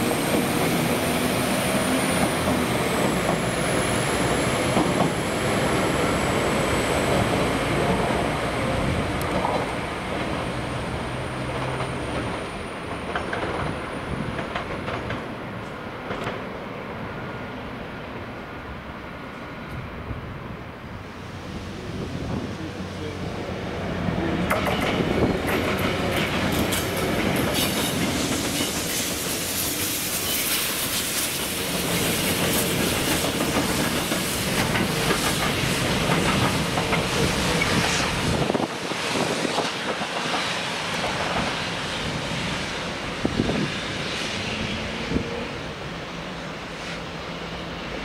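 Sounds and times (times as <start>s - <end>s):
train running on rails: 0.0s - 48.0s.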